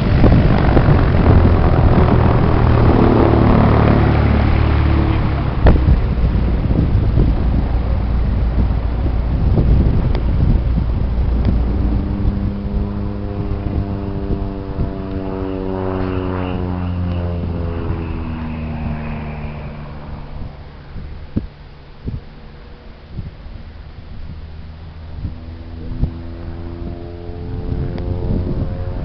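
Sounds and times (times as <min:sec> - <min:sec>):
propeller plane droning overhead: 0:00.0 - 0:29.0
wind rumbling on microphone: 0:00.0 - 0:29.0.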